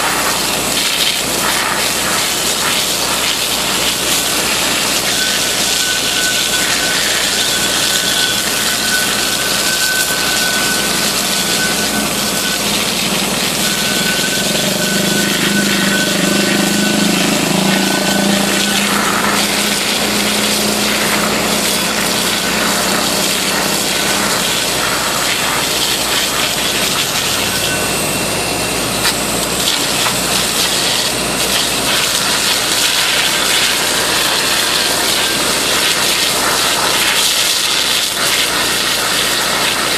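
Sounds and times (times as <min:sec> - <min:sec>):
high-pressure water jet hissing: 0:00.0 - 0:39.9
thin steady whine: 0:00.0 - 0:39.9.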